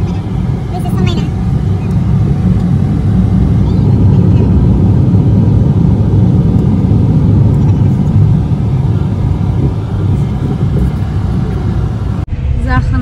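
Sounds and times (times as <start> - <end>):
car interior road and engine noise: 0.0 - 13.0.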